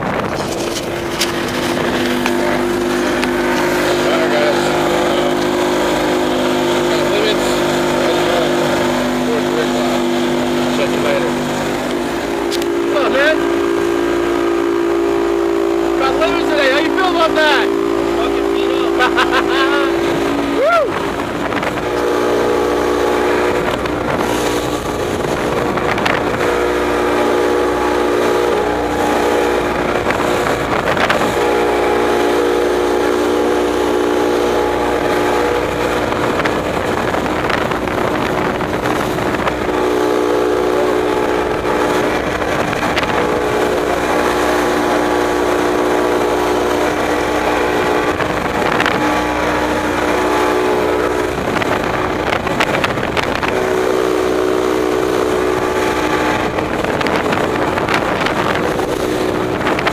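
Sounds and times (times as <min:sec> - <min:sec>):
boat engine droning: 0:00.0 - 0:59.9
wind and water rushing: 0:00.0 - 0:59.9.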